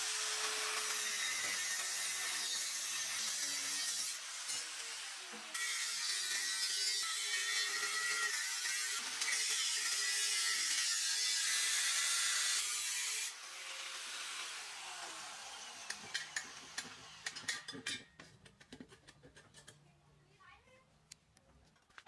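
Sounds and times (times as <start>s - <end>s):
angle grinder cutting metal: 0.0s - 17.8s.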